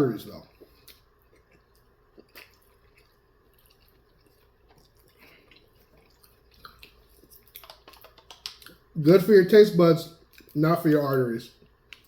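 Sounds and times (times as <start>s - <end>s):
wet chewing sounds: 0.3s - 9.0s, 10.2s - 12.0s.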